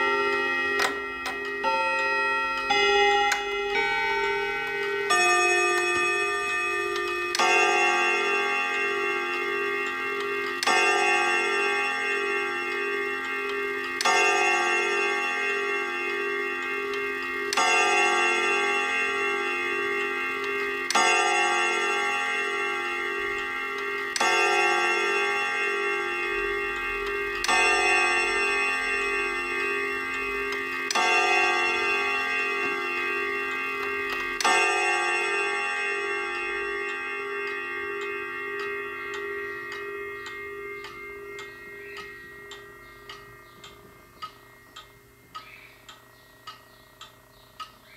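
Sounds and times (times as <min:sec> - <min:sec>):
clock chime rods ringing: 0:00.0 - 0:47.9.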